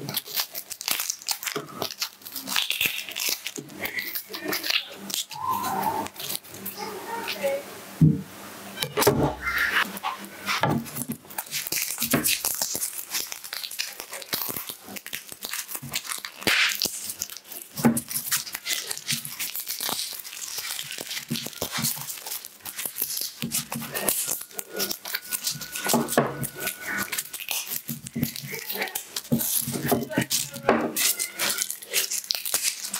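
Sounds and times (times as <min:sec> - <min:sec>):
garlic skins crackling and tearing: 0:00.0 - 0:07.6, 0:09.8 - 0:32.9.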